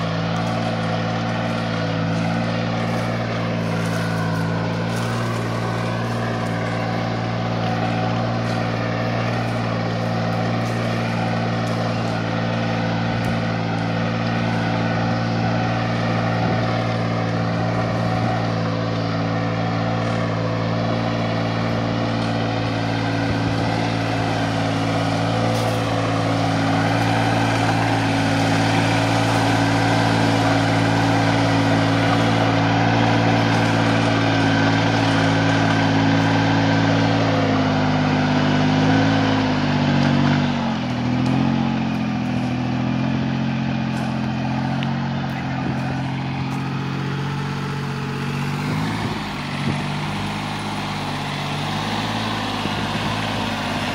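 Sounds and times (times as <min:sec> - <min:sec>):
tractor engine running under load: 0:00.0 - 0:53.9.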